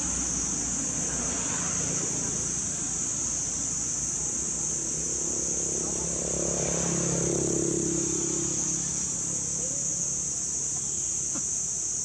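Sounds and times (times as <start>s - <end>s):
vehicle engine passing: 0.0s - 10.8s
high-pitched insect chorus: 0.0s - 12.0s.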